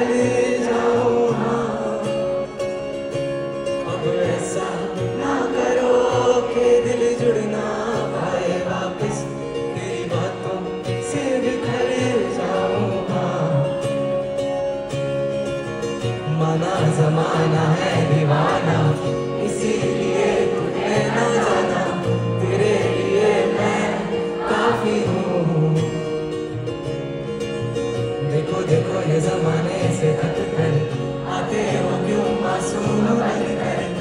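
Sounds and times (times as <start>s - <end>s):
audience singing along: 0.0s - 14.3s, 16.3s - 26.6s, 28.3s - 34.0s
acoustic guitar strumming: 0.0s - 34.0s.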